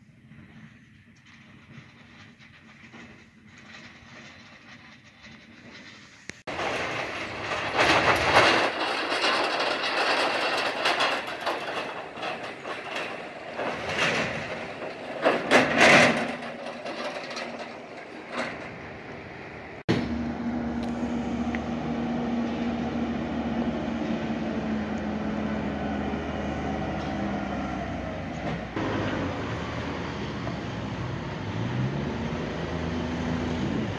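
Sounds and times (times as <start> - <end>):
vehicle engine drone: 0.0 - 33.9
truck rattling over rough ground: 0.2 - 33.9.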